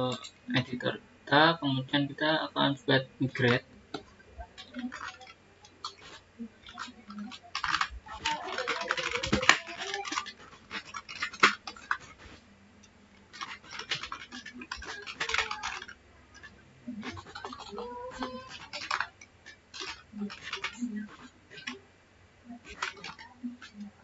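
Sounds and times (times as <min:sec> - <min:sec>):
keyboard typing: 0:03.0 - 0:21.8, 0:22.4 - 0:24.0.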